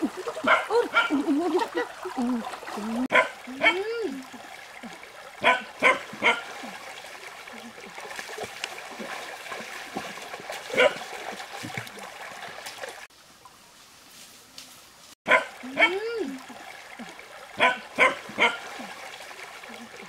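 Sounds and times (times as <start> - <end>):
stream water trickling and splashing: 0.0 - 20.0.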